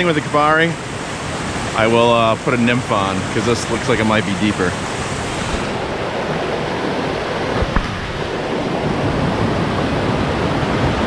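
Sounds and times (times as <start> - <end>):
creek and waterfall rushing: 0.0 - 11.0.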